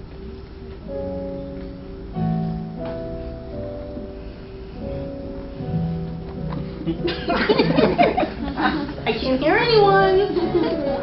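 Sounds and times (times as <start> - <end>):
keyboard playing soft chords: 0.0 - 11.0.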